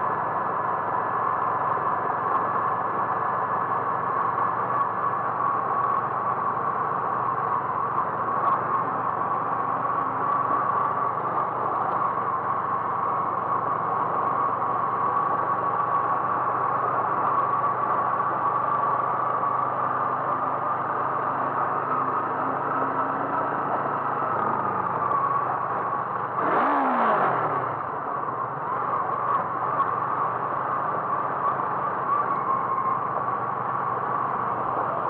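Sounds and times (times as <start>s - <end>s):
road noise: 0.0s - 35.0s
vehicle engine hum: 0.0s - 35.0s.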